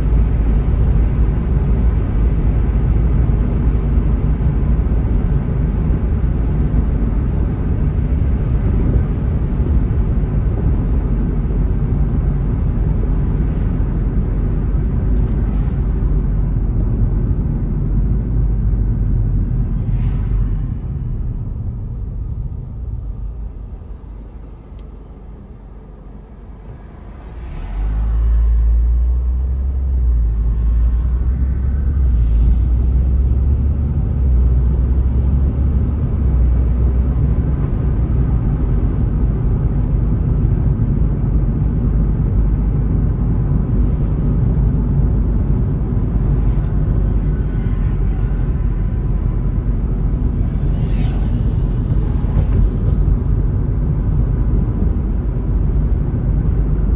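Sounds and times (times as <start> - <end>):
car road and wind rumble: 0.0 - 56.9.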